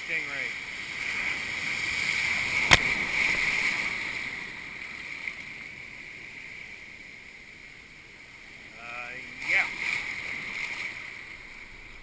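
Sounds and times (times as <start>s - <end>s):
surf washing in shallows: 0.0s - 12.0s.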